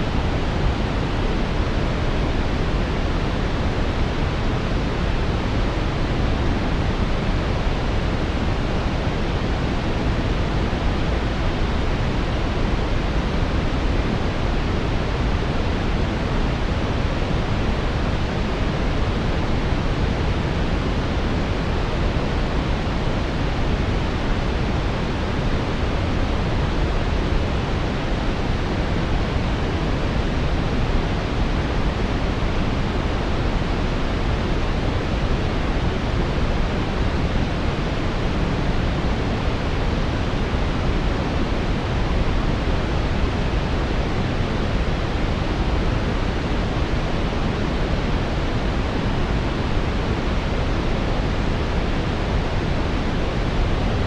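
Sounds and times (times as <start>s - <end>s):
deep brown noise hiss: 0.0s - 54.0s.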